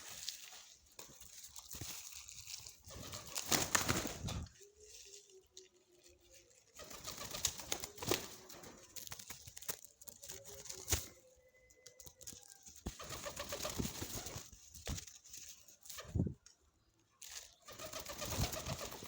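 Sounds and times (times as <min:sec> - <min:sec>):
rustling and clicking: 0:00.0 - 0:19.0.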